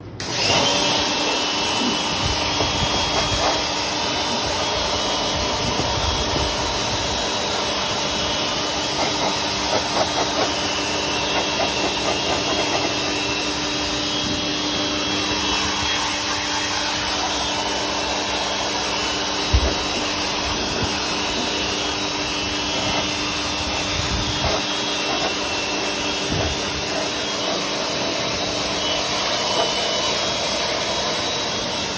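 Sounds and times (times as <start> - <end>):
machine running with loud hiss: 0.2 - 31.9.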